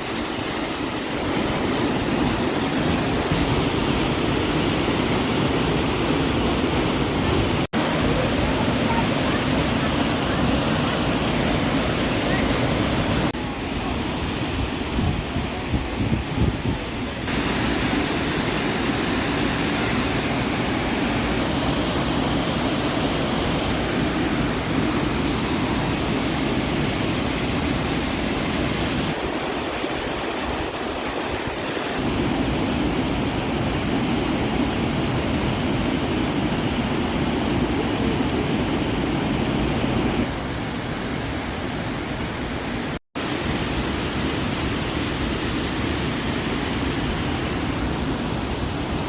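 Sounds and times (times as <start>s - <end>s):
waterfall cascading: 0.0s - 49.0s.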